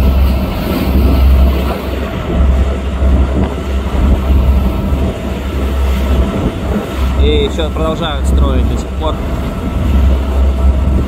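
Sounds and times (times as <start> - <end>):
low rumble of waves: 0.0 - 11.0
motorboat engine: 0.0 - 11.0
rushing water: 0.0 - 11.0.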